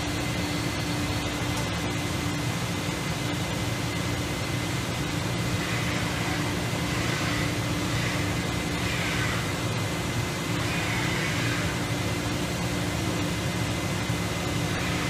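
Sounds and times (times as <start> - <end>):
grinder machine whir and hiss: 0.0 - 15.0.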